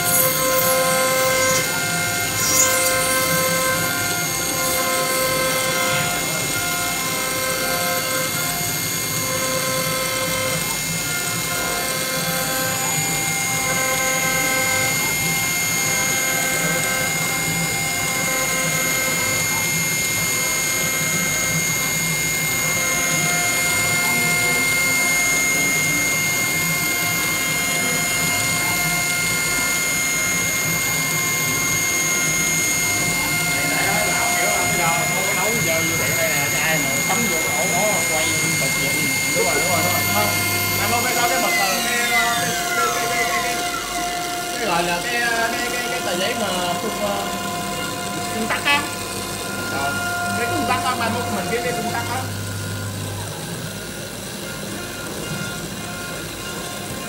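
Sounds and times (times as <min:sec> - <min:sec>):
milling machine spindle whine: 0:00.0 - 0:57.0.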